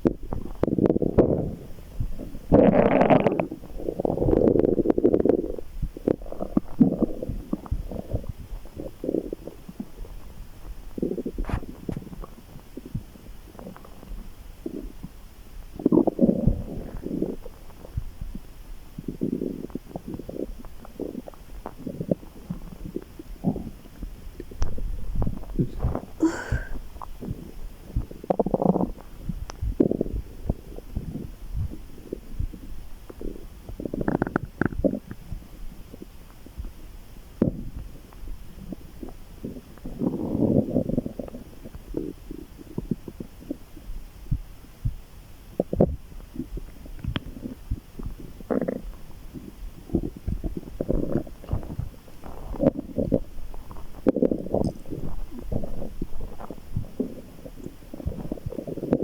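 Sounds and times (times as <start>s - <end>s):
stomach rumbling and gurgling: 0.0s - 59.0s.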